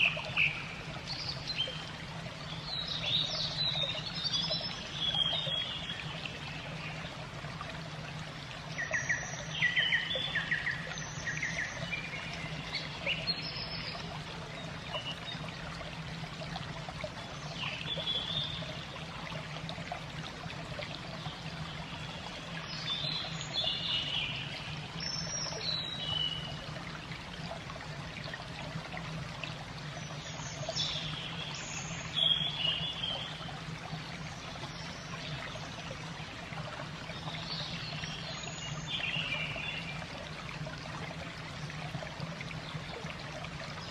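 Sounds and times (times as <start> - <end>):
trickling water: 0.0 - 43.9.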